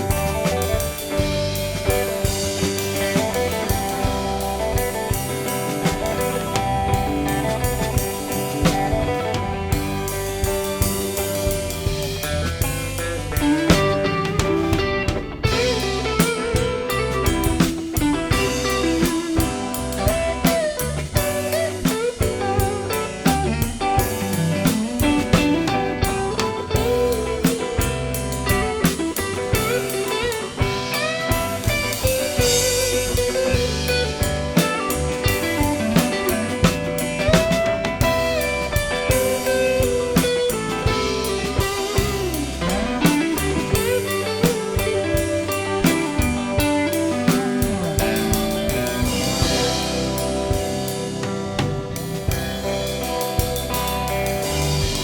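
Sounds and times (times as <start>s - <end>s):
bass guitar: 0.0s - 55.0s
drum kit: 0.0s - 55.0s
lead guitar with bent notes: 0.0s - 55.0s.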